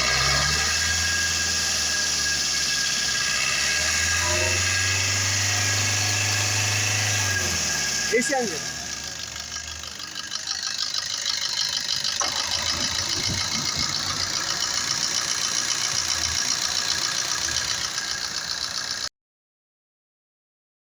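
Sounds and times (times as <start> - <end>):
car engine idling: 0.0 - 19.1.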